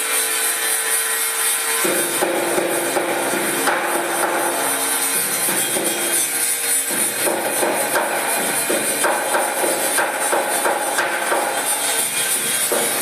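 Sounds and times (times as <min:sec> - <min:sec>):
metalworking tool grinding: 0:00.0 - 0:13.0.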